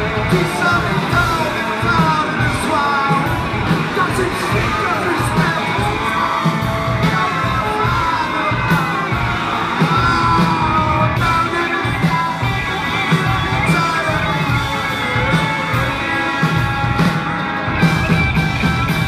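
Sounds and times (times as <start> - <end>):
crowd shouting: 0.0 - 19.0
rock band playing live: 0.0 - 19.0.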